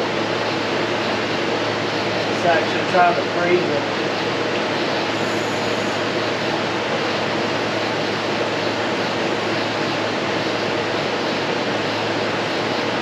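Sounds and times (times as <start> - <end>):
air conditioner fan noise: 0.0 - 13.0
compressor low hum: 0.0 - 13.0.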